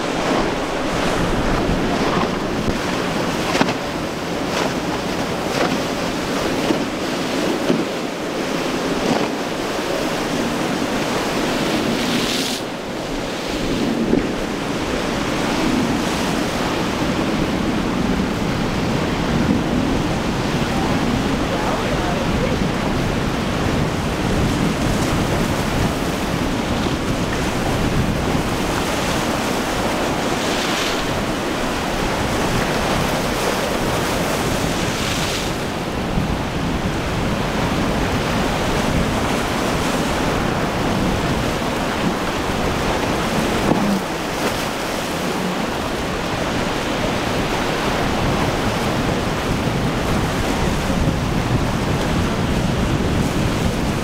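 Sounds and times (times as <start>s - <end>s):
breaking surf: 0.0s - 54.0s
wind buffeting microphone: 0.0s - 54.0s.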